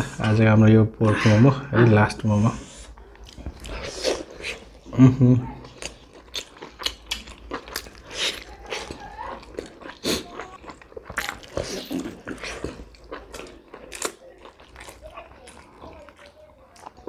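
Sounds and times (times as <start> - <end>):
wet chewing and mouth clicks: 2.2 - 4.9, 5.5 - 17.0.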